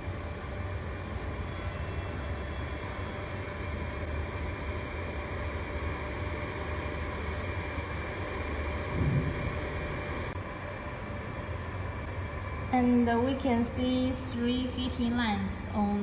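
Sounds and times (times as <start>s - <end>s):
hot-air blowers rushing: 0.0s - 14.3s
low hum: 0.0s - 16.0s.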